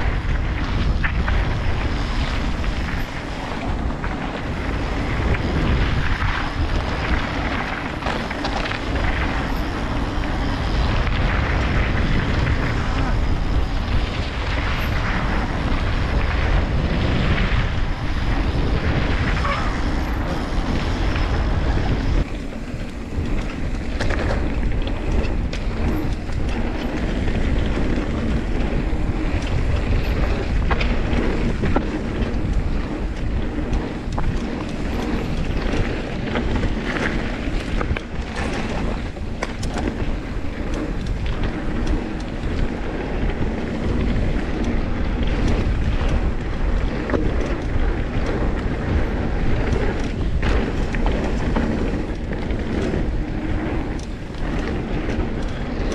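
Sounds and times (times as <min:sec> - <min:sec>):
bike rattling and knocking: 0:00.0 - 0:55.9
tyres on gravel: 0:00.0 - 0:55.9
wind buffeting microphone: 0:00.0 - 0:55.9.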